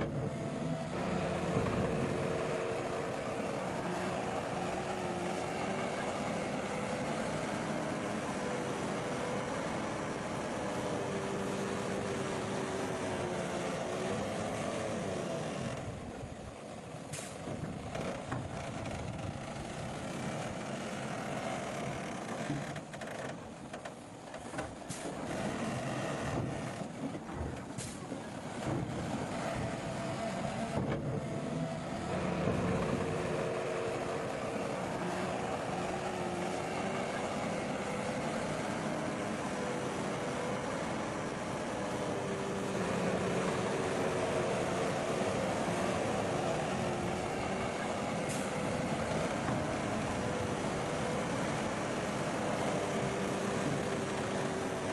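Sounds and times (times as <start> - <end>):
heavy machinery engine drone: 0.0 - 54.9.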